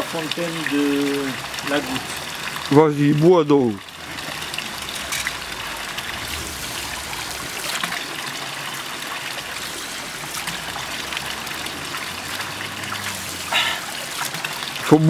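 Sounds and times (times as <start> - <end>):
fountain water trickling and splashing: 0.0 - 15.0.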